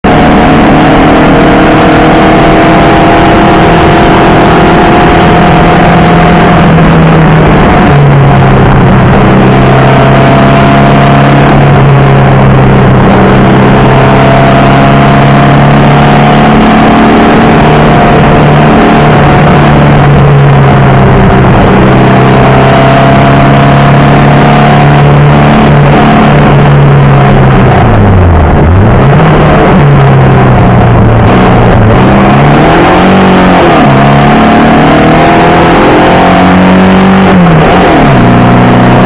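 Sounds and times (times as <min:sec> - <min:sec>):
car engine running under load: 0:00.0 - 0:39.0.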